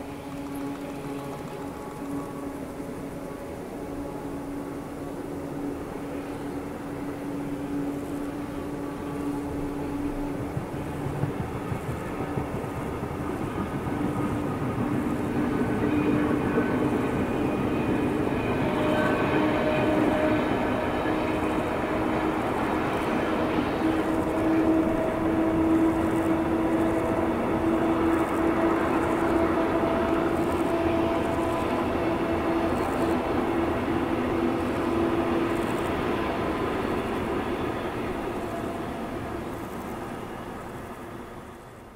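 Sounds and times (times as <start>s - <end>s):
distant diesel train drone: 0.0s - 41.9s.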